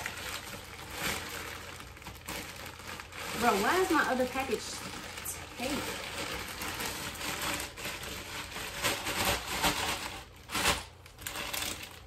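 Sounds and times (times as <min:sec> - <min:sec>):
package wrapping ripping: 0:00.0 - 0:12.0.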